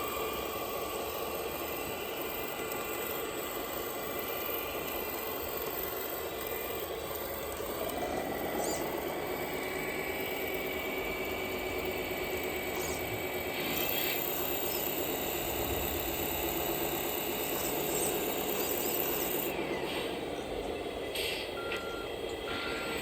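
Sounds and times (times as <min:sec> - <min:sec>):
model truck motor whine: 0:00.0 - 0:23.0.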